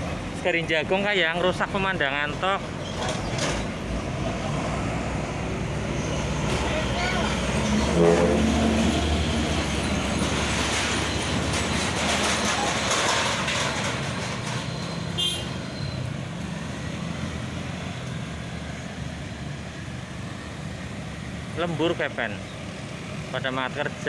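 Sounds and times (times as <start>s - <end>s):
truck passing close by: 0.0s - 24.0s.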